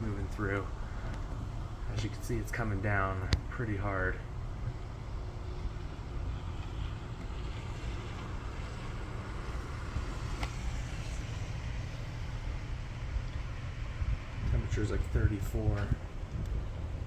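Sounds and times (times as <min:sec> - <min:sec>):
faint hiss of snowfall: 0:00.0 - 0:17.0
low outdoor rumble: 0:00.0 - 0:17.0.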